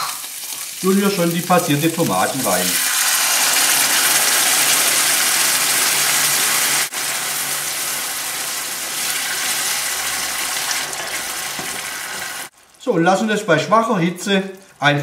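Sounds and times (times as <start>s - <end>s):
sauce sizzling in hot oil: 0.0s - 14.8s.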